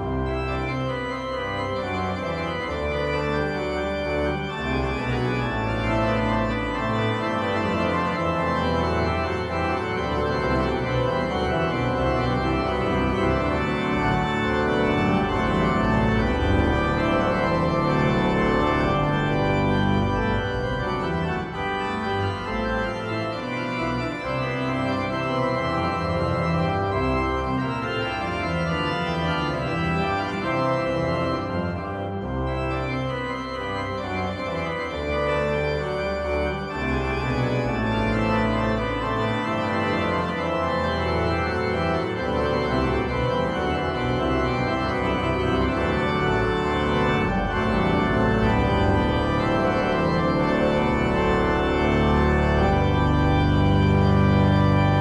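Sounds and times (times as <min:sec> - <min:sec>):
organ chords: 0:00.0 - 0:55.0.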